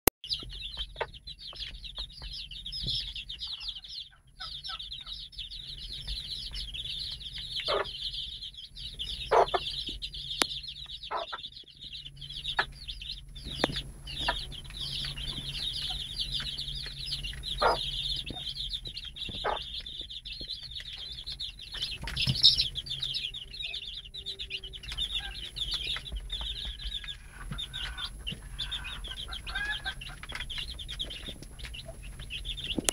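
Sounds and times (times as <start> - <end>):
chicks peeping: 0.3 - 32.9.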